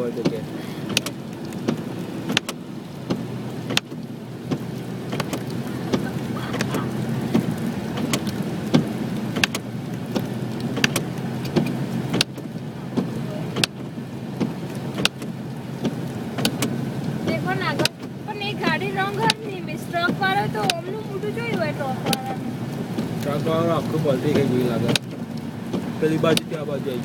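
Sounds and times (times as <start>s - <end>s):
road noise in traffic: 0.0s - 27.0s
vehicle engine: 0.0s - 27.0s
sharp clicks and taps: 0.2s - 16.7s, 17.3s - 22.4s, 23.0s - 26.6s.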